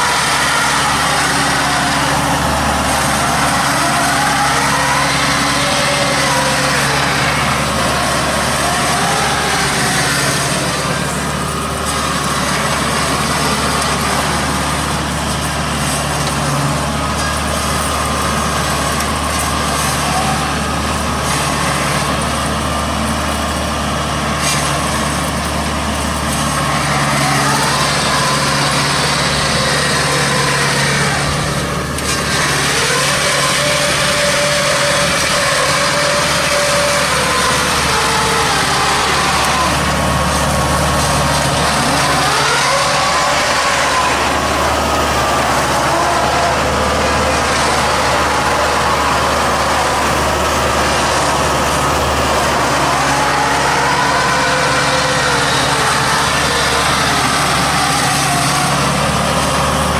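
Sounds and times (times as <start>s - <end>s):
machine engine running: 0.0s - 59.9s.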